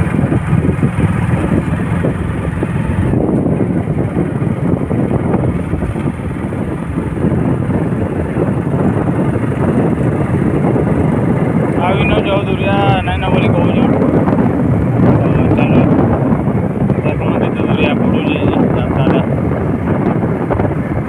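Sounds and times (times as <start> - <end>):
motorcycle engine: 0.0 - 21.0
road noise: 0.0 - 21.0
wind buffeting microphone: 0.0 - 21.0.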